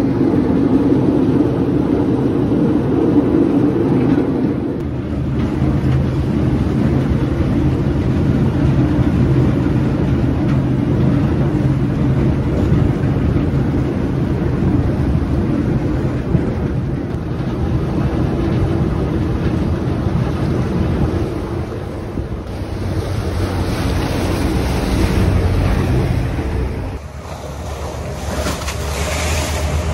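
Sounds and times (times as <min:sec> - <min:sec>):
boat engine droning: 0:00.0 - 0:29.9
water rushing along hull: 0:00.0 - 0:29.9
wind on microphone: 0:00.0 - 0:29.9.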